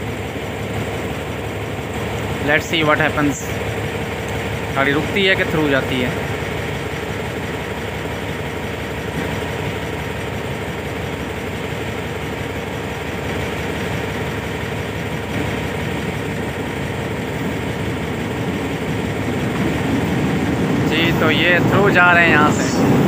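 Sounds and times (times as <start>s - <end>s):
locomotive engine drumming: 0.0s - 23.0s.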